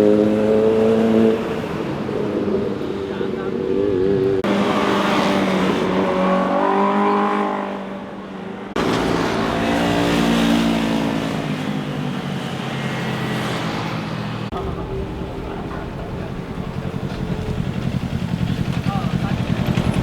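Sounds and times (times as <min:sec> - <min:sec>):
motorcycle passing by: 0:00.0 - 0:20.0.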